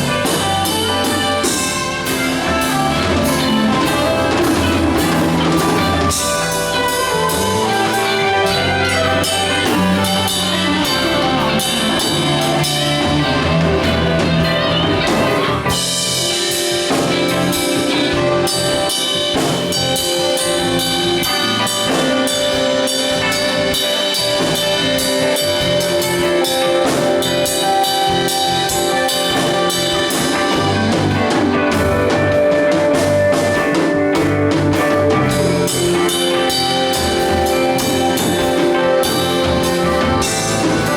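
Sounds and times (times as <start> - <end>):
bass guitar: 0.0 - 40.9
drum kit beat: 0.0 - 40.9
guitar: 0.0 - 40.9
keyboard: 0.0 - 40.9.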